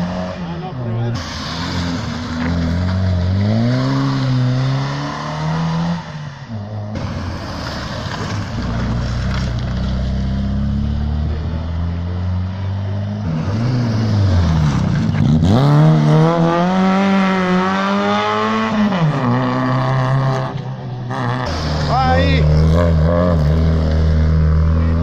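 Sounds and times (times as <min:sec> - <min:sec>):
rally car slowing and accelerating: 0:00.0 - 0:25.0.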